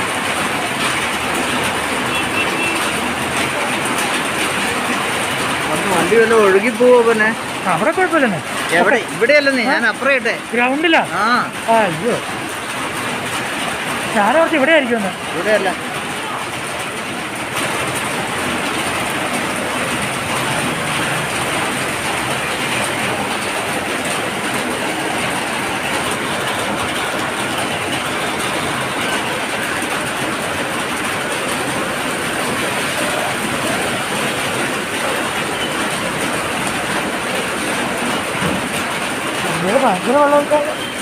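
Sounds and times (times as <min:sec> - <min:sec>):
floodwater rushing roar: 0:00.0 - 0:41.0.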